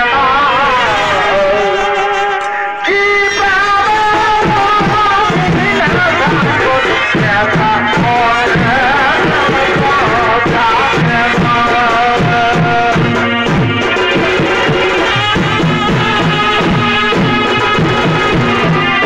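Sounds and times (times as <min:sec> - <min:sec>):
reedy melody: 0:00.0 - 0:19.0
fast drumming: 0:02.9 - 0:19.0.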